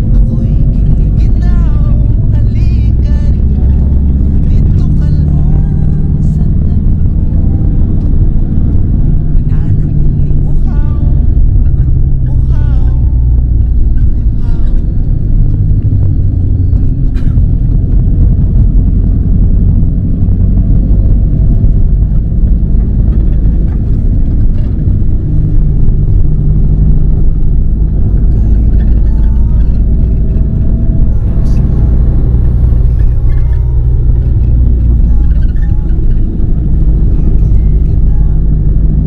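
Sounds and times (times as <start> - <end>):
van engine and tyre rumble: 0.0 - 39.0.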